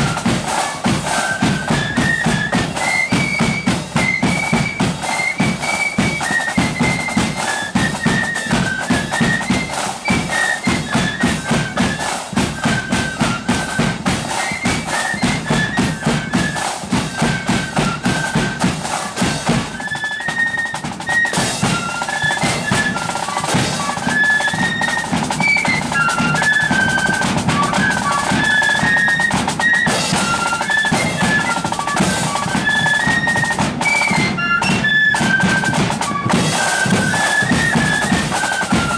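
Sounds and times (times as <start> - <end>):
flute band playing a tune: 0.0 - 38.9
marching drums beating: 0.0 - 38.9.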